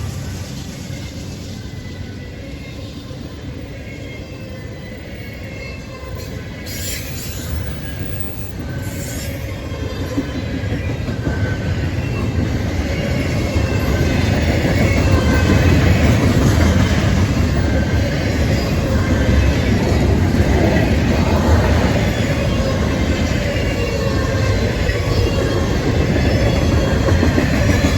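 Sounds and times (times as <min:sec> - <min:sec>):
train rumbling on rails: 0:00.0 - 0:27.9
high wheel squeal: 0:00.1 - 0:27.9.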